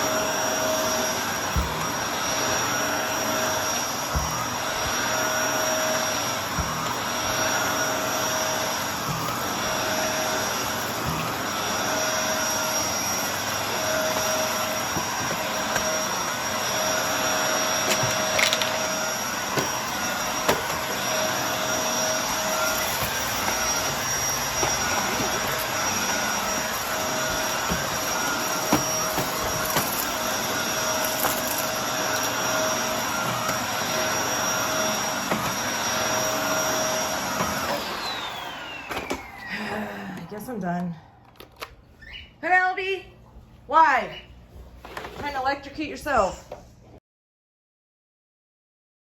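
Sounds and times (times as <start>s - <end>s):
vacuum cleaner on carpet: 0.0s - 41.7s, 42.4s - 47.0s.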